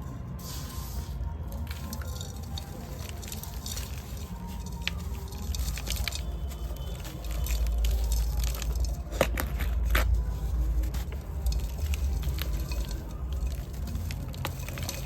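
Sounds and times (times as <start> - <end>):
sand and clay crumbling: 0.0 - 15.0.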